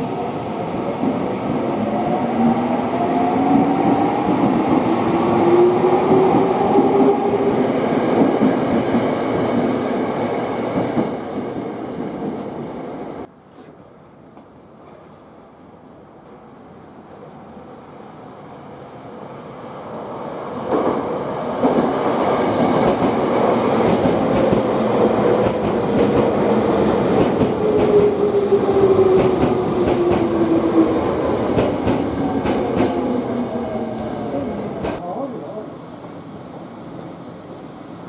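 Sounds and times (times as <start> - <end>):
electric train passing: 0.0 - 13.3, 15.6 - 38.0.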